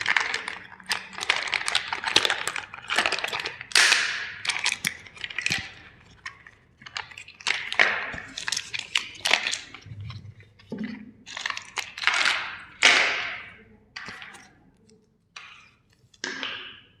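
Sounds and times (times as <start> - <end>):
plastic toys cracking and crunching: 0.0 - 17.0.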